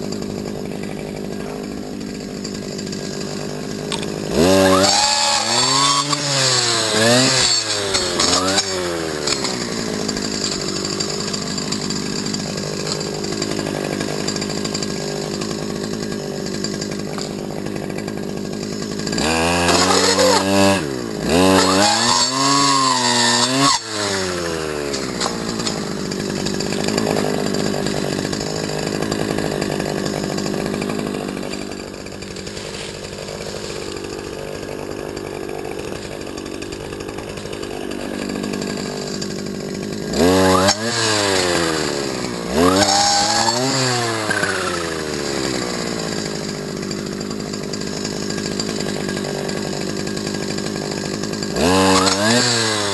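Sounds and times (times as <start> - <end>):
brush cutter engine revving: 0.0 - 52.9.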